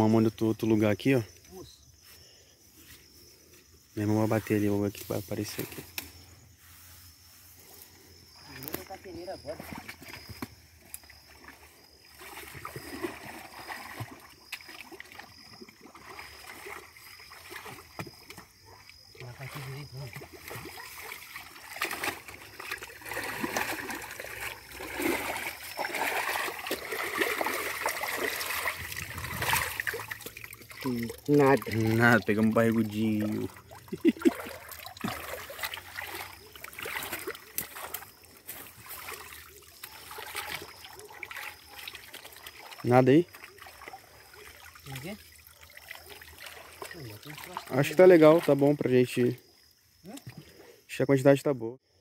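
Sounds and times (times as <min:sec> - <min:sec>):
creek water splashing: 0:01.5 - 0:50.8.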